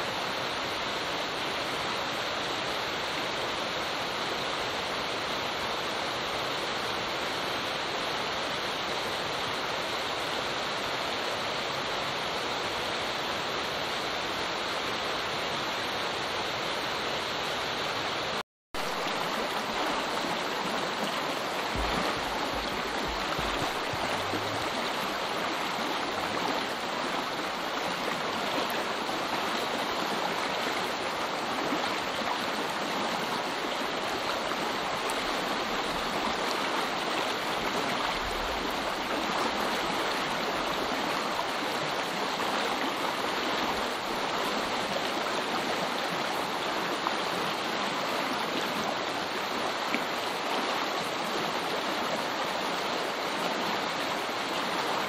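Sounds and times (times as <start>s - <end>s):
creek rushing and splashing: 0.0s - 55.0s.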